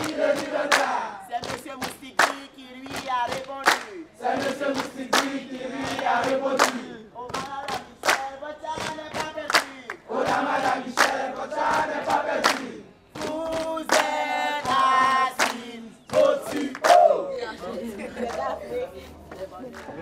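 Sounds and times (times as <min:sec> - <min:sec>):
group singing a chant: 0:00.0 - 0:17.2
rhythmic clapping: 0:00.0 - 0:17.2, 0:18.0 - 0:18.6, 0:19.3 - 0:20.0.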